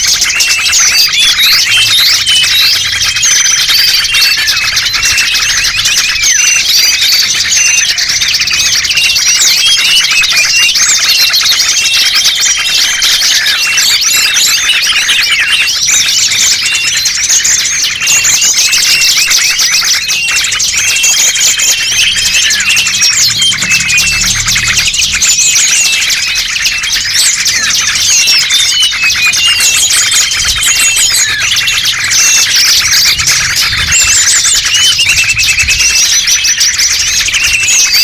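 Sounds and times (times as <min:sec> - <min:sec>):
small birds chirping and twittering: 0:00.0 - 0:38.0.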